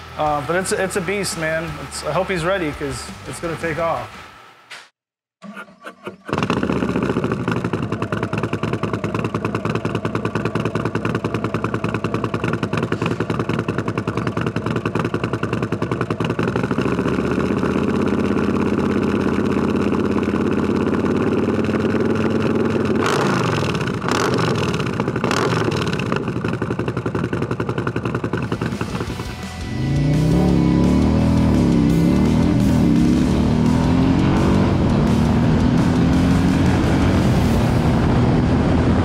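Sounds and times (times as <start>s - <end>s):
motorcycle engine idling and revving: 0.0s - 4.4s, 5.4s - 39.0s.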